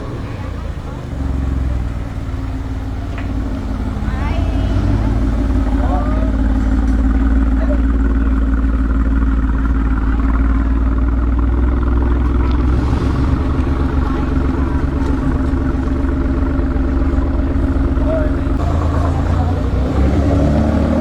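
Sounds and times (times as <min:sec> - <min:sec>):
car engine running at low revs: 0:00.0 - 0:21.0.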